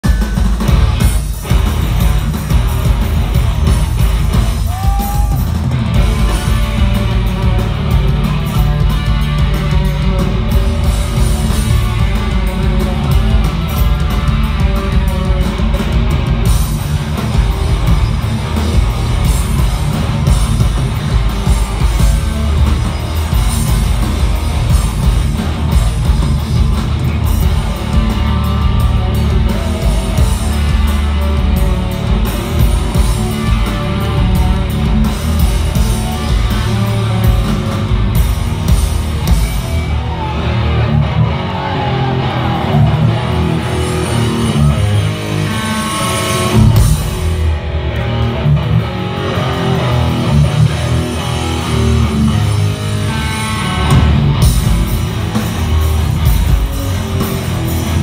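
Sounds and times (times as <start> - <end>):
punk band playing live: 0.0 - 58.0.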